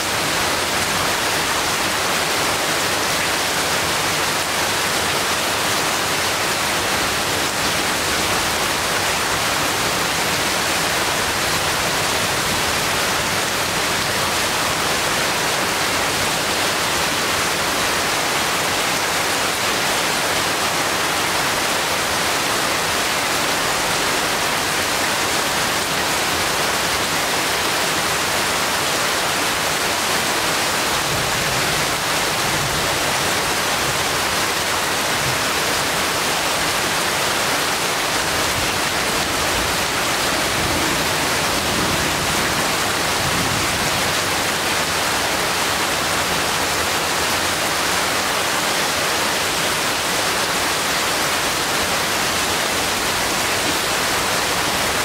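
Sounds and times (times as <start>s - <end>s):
heavy rain on leaves: 0.0s - 55.0s.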